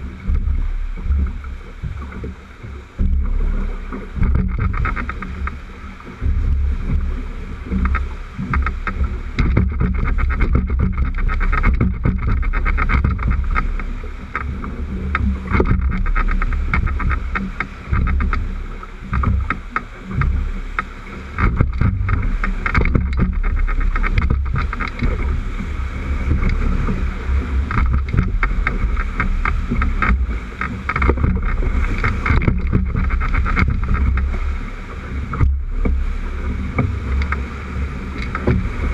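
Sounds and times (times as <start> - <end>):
low rumble on microphone: 0.0 - 38.9
whitewater rushing and splashing: 0.0 - 38.9.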